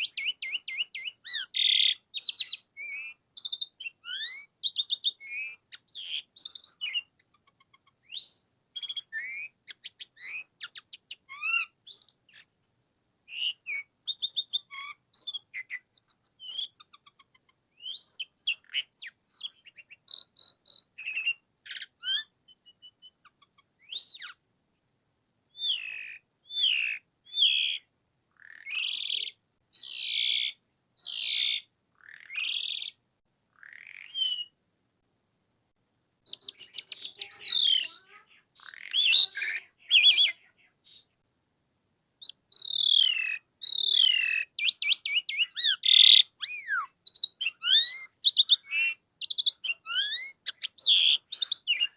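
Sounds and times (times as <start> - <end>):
starling singing: 0.0 - 24.4, 25.5 - 34.6, 36.2 - 41.2, 42.2 - 51.9.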